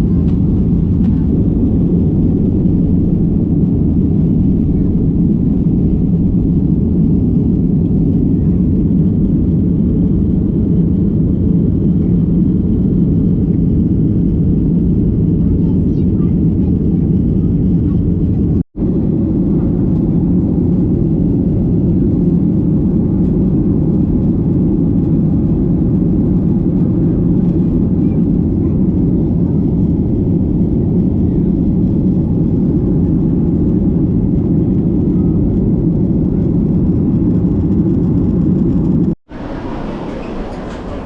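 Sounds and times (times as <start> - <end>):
jet airliner cabin roar: 0.0 - 41.0.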